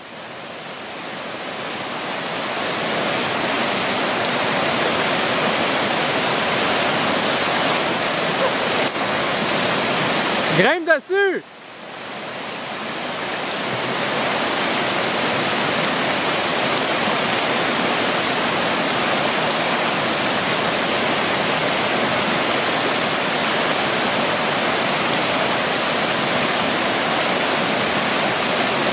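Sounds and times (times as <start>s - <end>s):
whitewater rapids rushing: 0.0s - 28.9s.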